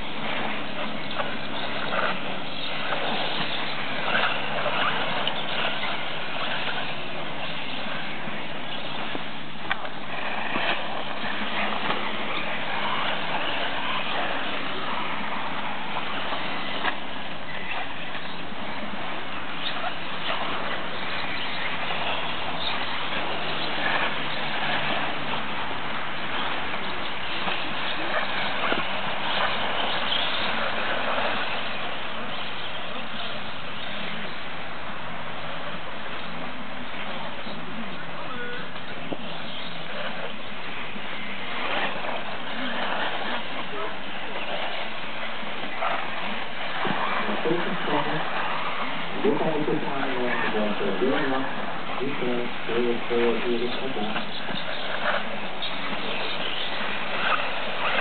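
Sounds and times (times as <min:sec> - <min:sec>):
steady noisy background: 0:00.0 - 0:58.0.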